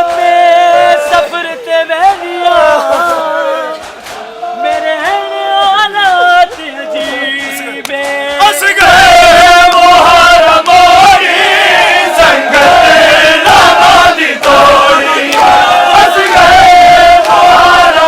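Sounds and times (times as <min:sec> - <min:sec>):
male voices singing lament: 0:00.0 - 0:18.0
many voices chanting: 0:00.0 - 0:18.0.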